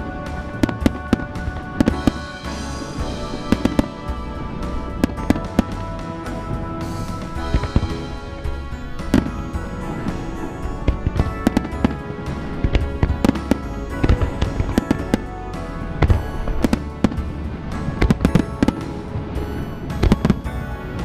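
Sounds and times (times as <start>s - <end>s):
background music: 0.0s - 21.0s
firework shells bursting: 0.0s - 21.0s.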